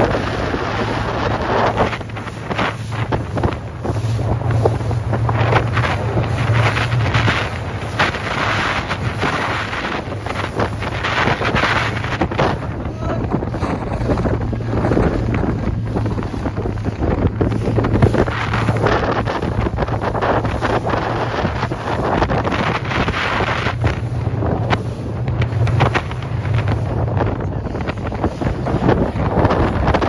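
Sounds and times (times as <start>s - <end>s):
hull slapping waves: 0.0s - 30.0s
motorboat engine drone: 0.0s - 30.0s
wind buffeting microphone: 0.0s - 30.0s.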